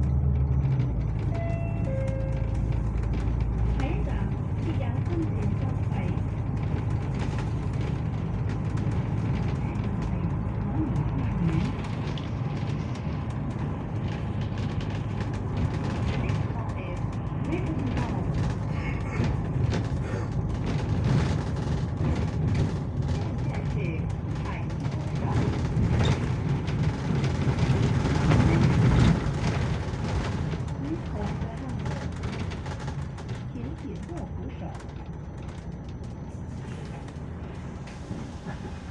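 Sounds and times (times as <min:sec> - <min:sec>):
bus engine rumble: 0:00.0 - 0:38.9
road noise: 0:00.0 - 0:38.9.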